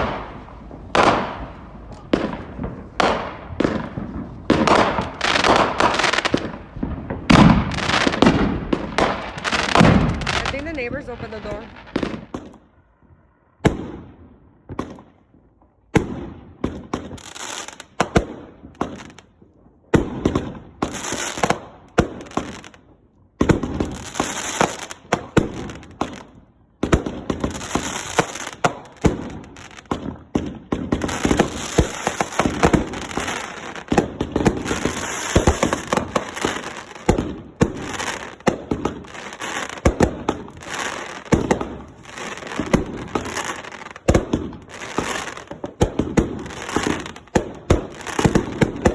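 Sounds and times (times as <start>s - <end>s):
firework bangs with crackle: 0.0s - 12.7s, 13.6s - 48.9s.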